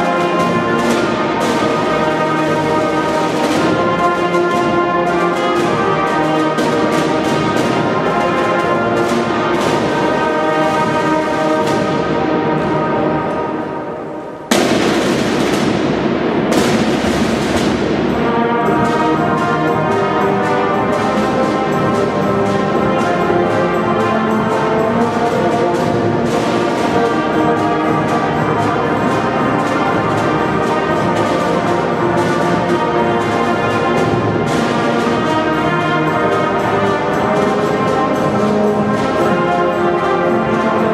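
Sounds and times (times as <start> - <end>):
marching band playing: 0.0 - 40.9.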